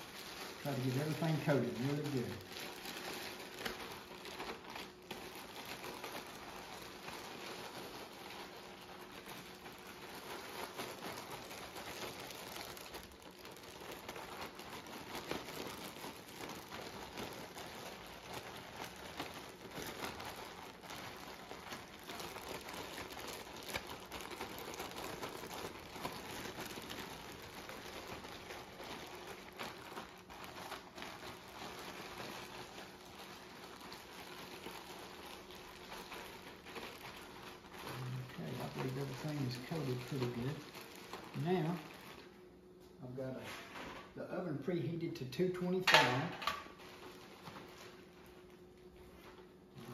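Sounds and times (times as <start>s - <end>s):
crackers rattling in plastic bag: 0.0s - 49.9s
plastic bag crinkling: 0.0s - 49.9s.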